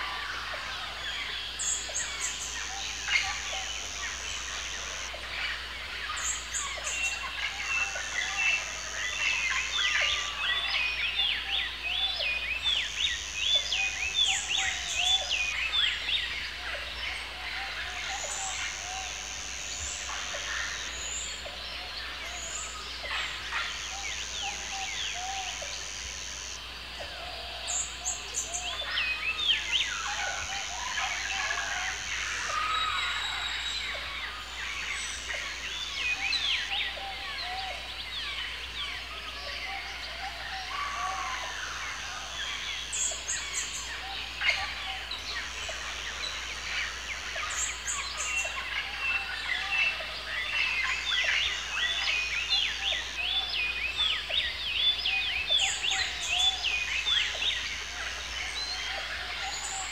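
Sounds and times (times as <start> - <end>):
birds chirping and calling: 0.0 - 26.6, 27.5 - 59.9.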